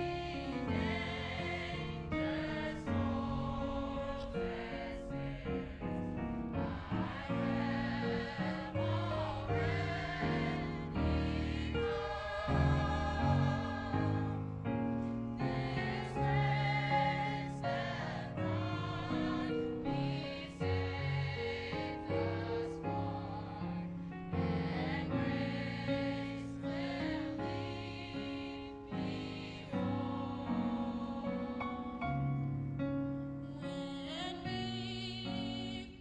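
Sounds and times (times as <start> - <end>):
gospel choir singing in harmony: 0.0 - 32.4.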